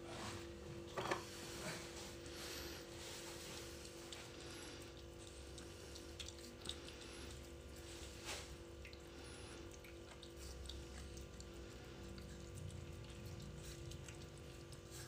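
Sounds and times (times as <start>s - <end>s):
steady low hum: 0.0s - 15.0s
cat eating wet food: 0.1s - 15.0s.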